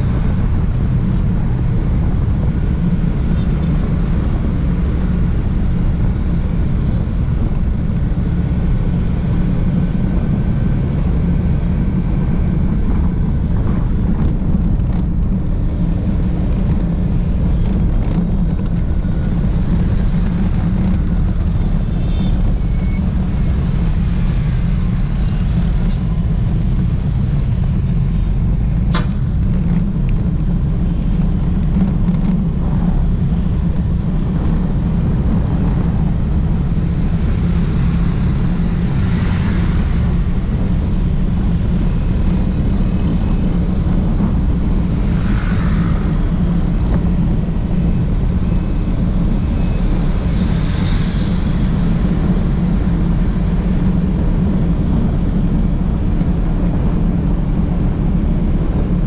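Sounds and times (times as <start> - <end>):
low wind rumble on microphone: 0.0 - 59.0
road traffic engines and tyres: 0.0 - 59.0.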